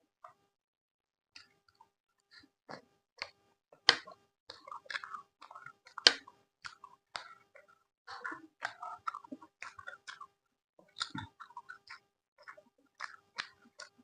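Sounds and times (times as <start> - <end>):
person chewing: 2.3 - 14.0.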